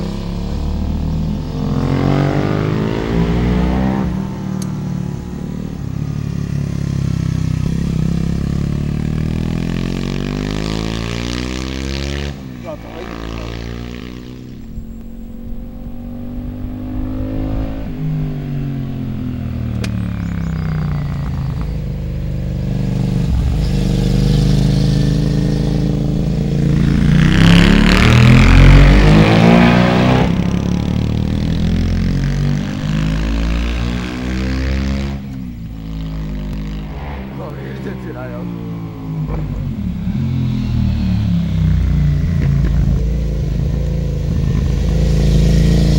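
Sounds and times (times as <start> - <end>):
motorcycle engines passing: 0.0 - 45.9.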